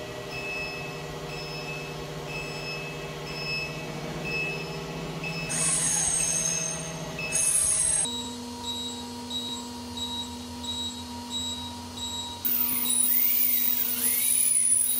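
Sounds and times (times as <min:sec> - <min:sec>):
motor hum: 0:00.0 - 0:14.9.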